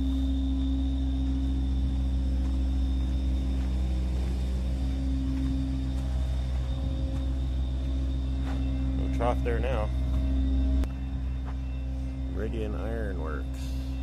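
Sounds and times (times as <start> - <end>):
constant hum: 0.0 - 14.0
low rumble: 0.0 - 14.0.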